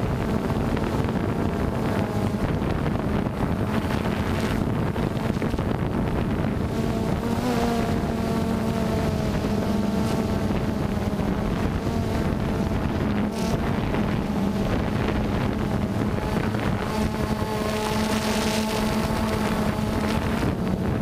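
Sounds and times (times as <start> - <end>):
drone propellers humming: 0.0 - 21.0
rush of wind: 0.0 - 21.0.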